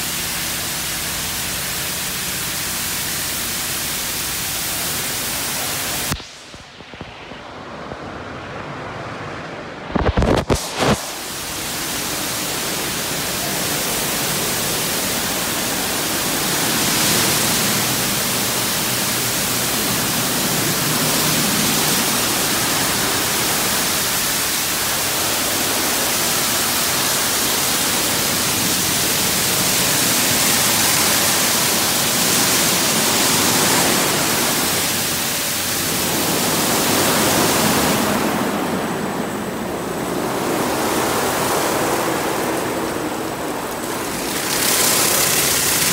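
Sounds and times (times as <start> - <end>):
car wash brushes and water spray: 0.0 - 7.4, 9.9 - 45.9.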